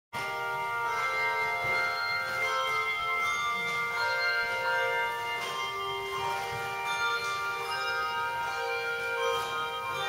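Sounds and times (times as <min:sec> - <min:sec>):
bells ringing: 0:00.2 - 0:10.0.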